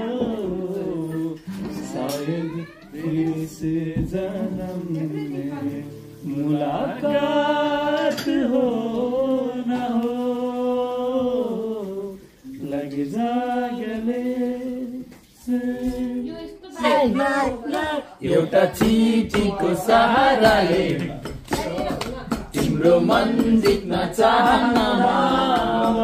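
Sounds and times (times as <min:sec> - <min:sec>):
men singing slowly: 0:00.0 - 0:16.3, 0:18.2 - 0:26.0
lively voices: 0:00.0 - 0:26.0.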